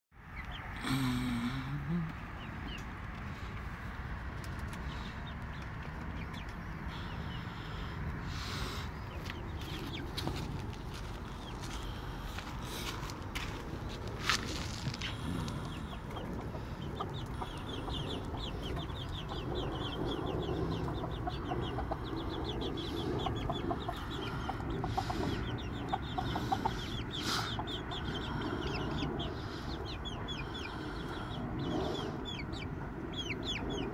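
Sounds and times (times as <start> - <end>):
chicks peeping: 0.2 - 1.0, 2.0 - 33.9.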